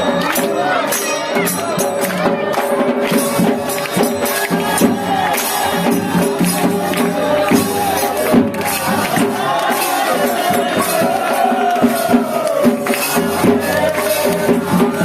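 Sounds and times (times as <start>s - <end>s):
crowd noise: 0.0s - 15.0s
drum strikes: 0.0s - 15.0s
jingling metal percussion: 0.0s - 15.0s.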